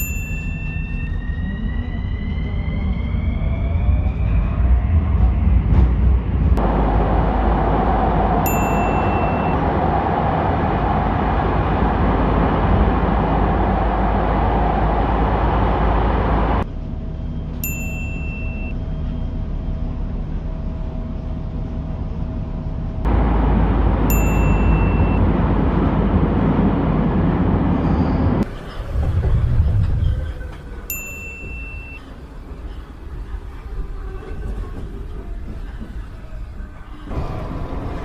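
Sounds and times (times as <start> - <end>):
subway train rumble: 0.0 - 38.0.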